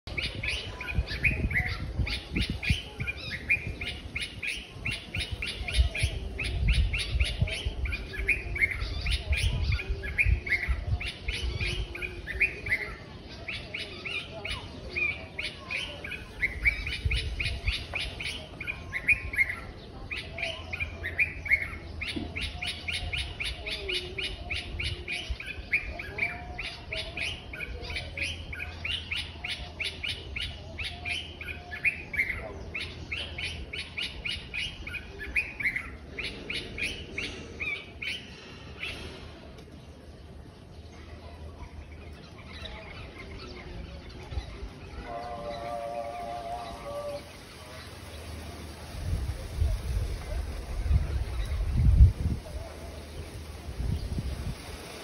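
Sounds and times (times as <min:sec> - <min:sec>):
birds chirping: 0:00.0 - 0:55.0
birds whistling: 0:00.1 - 0:39.2, 0:42.1 - 0:48.4.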